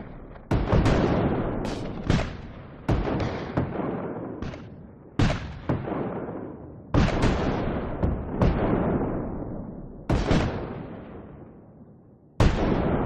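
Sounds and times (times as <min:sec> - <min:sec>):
heavy gunshots with rumbling tail: 0:00.0 - 0:11.7, 0:12.4 - 0:13.0.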